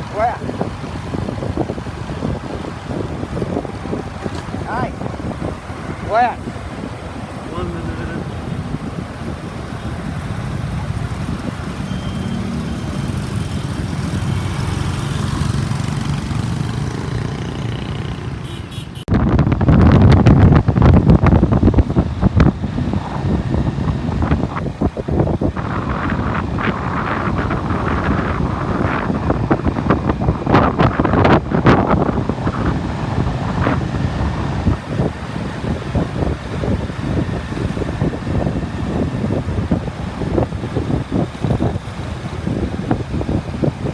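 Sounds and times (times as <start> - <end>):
surrounding traffic: 0.0 - 43.9
wind buffeting microphone: 0.0 - 43.9
motorbike engine: 0.1 - 43.9.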